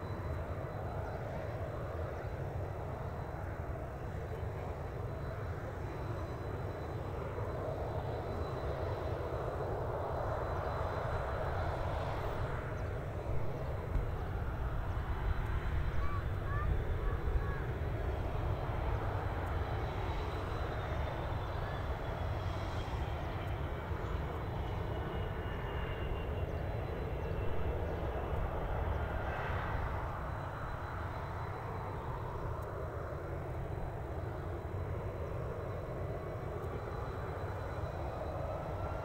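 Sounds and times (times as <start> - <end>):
airliner taxiing: 0.0 - 39.0
jet engines rumbling: 0.0 - 39.0.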